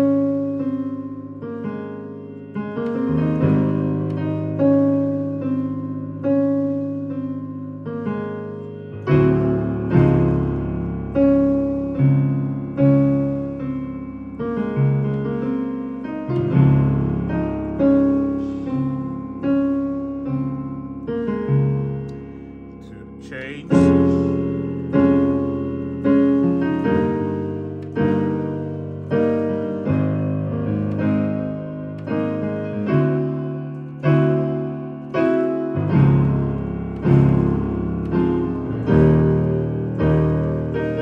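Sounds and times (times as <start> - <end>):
keyboard gospel chords: 2.3 - 41.0.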